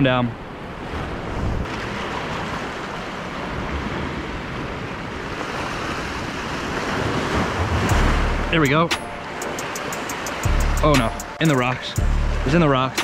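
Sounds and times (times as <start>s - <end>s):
ocean waves splashing on rocks: 0.6s - 12.0s.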